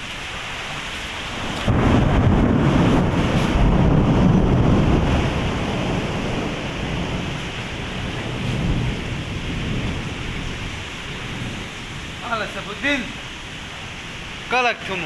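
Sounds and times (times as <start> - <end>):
heavy rain: 0.0 - 15.0
wind: 0.0 - 15.0
thunder rumbling: 1.3 - 14.4.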